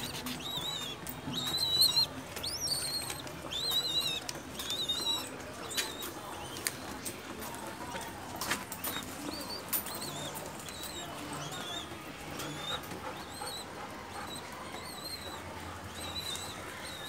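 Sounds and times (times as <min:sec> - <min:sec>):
faint low pigeon cooing: 0:00.0 - 0:17.0.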